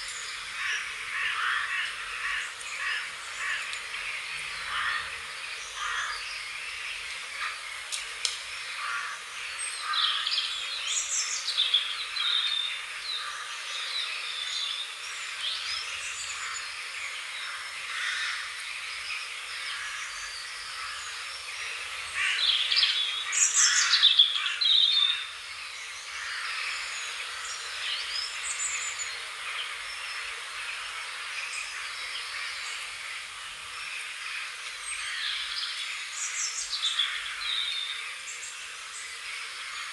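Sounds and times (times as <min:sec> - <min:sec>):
birds chirping and singing: 0:00.0 - 0:39.9
steady outdoor hiss: 0:00.0 - 0:39.9.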